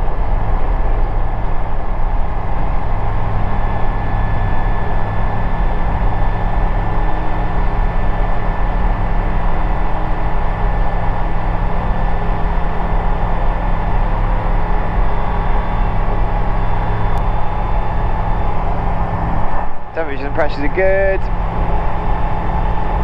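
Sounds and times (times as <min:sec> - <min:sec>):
microlight engine and propeller drone: 0:00.0 - 0:23.0
thin high whine: 0:00.0 - 0:23.0.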